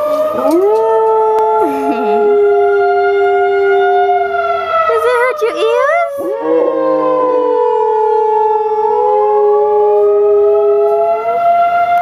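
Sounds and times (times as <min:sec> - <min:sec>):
tornado warning siren wailing: 0:00.0 - 0:12.0.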